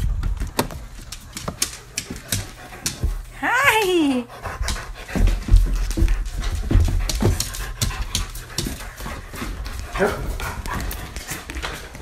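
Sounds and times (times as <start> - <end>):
dog panting and snuffling: 0.8 - 12.0.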